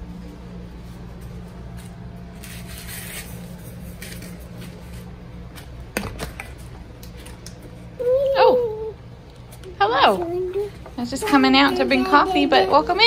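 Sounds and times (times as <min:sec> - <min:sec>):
fan low hum: 0:00.0 - 0:13.0.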